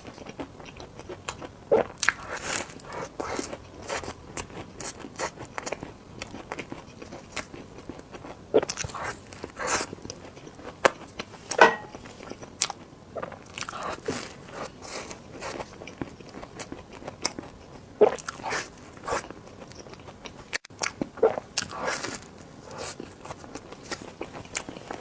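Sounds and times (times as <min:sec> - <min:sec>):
chewing food: 0:00.0 - 0:25.0.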